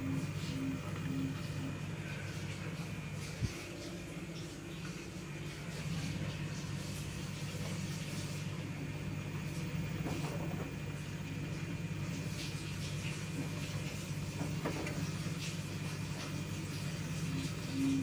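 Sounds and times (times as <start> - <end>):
washing machine spin hum: 0.0 - 18.0.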